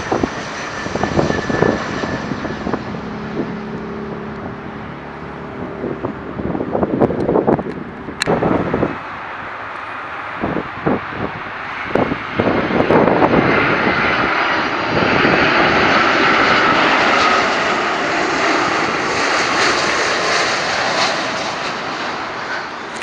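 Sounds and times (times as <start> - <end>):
airliner engine rush: 0.0 - 23.0.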